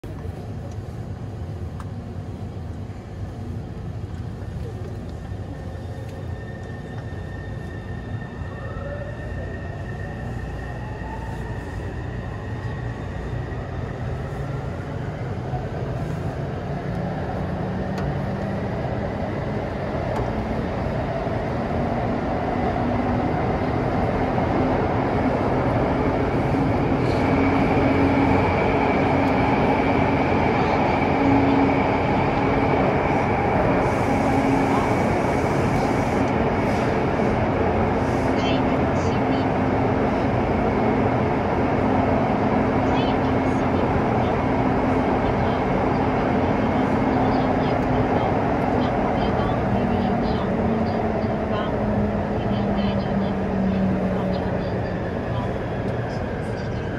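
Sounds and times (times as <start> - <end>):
train wheel and track rumble: 0.0 - 56.9.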